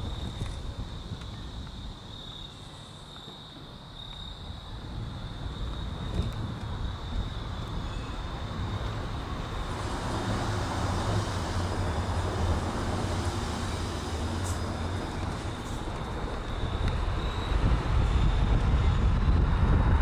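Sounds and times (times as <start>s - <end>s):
vehicle rumble: 0.0s - 20.0s.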